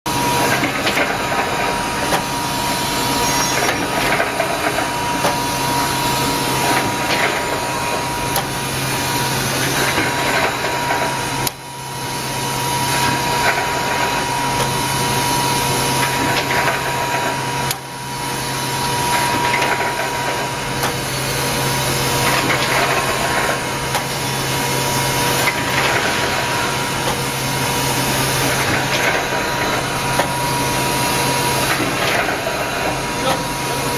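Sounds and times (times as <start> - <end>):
welding machine running: 0.1 - 33.9.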